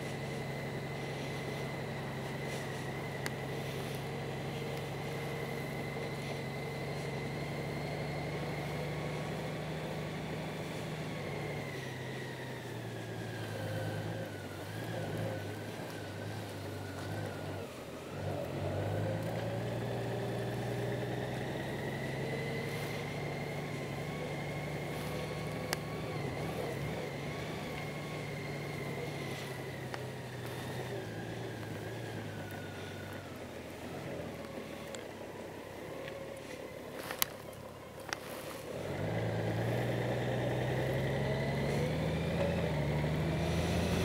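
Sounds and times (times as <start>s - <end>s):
motorcycle engine humming: 0.0s - 44.0s.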